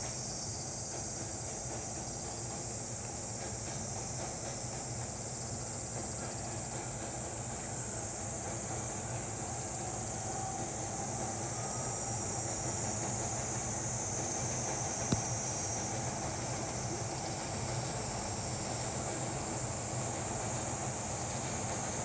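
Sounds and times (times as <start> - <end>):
distant train rumbling: 0.0 - 22.0
insects hissing: 0.0 - 22.0.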